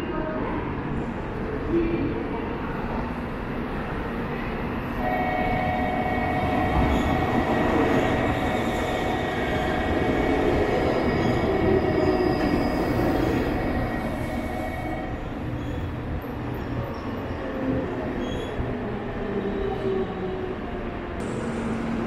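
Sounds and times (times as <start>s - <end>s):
train rumbling on rails: 0.0s - 22.0s
steady train whine: 2.9s - 22.0s.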